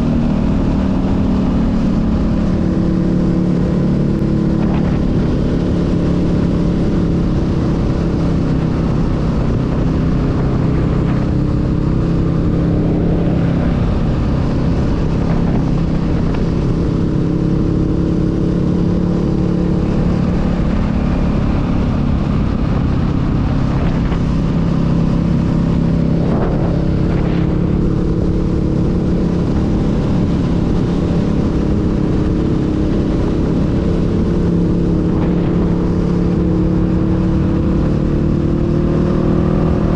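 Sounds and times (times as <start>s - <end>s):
constant rushing noise: 0.0s - 39.9s
motorcycle engine cruising: 0.0s - 39.9s.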